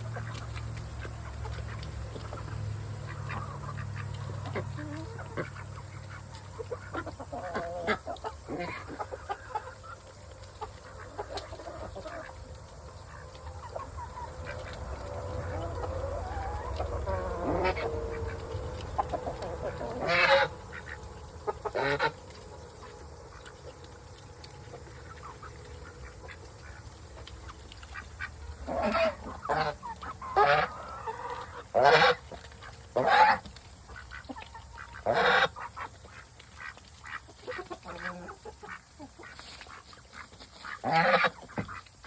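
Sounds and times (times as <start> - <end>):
ducks quacking: 0.0 - 42.0.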